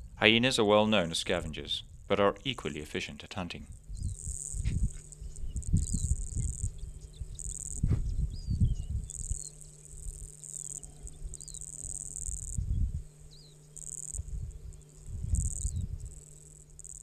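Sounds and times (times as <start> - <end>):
insects trilling: 0.8 - 17.0.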